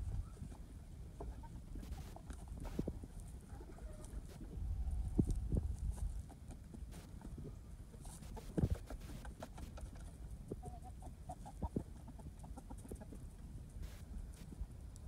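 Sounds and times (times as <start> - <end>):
chickens clucking: 0.0 - 4.7, 5.3 - 14.1.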